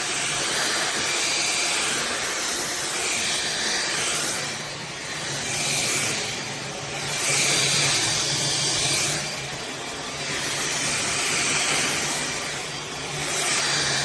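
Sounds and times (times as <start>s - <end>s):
stick vacuum running: 0.0s - 14.0s.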